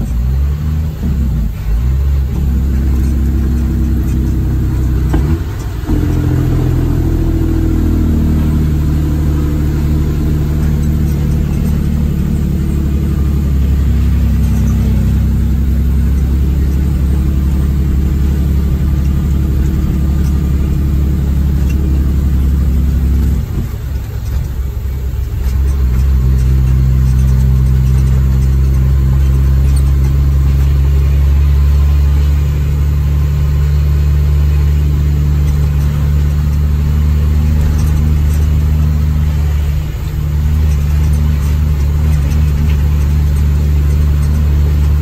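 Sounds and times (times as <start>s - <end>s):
diesel truck engine under load: 0.0s - 45.0s.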